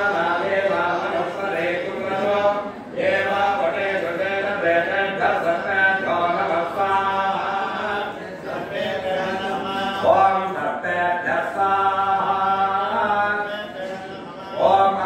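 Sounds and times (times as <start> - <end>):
priests chanting: 0.0 - 15.0.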